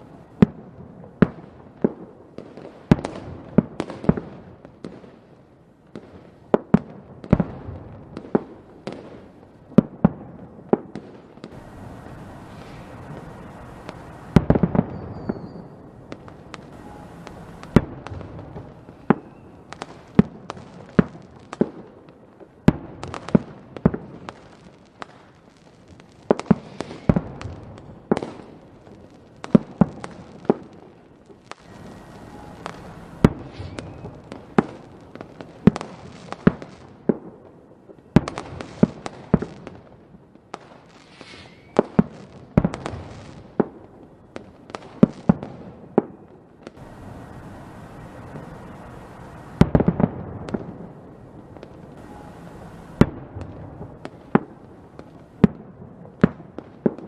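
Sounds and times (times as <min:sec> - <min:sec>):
fireworks bangs: 0:00.0 - 0:05.3, 0:05.9 - 0:57.0
fireworks crackling: 0:00.0 - 0:57.0.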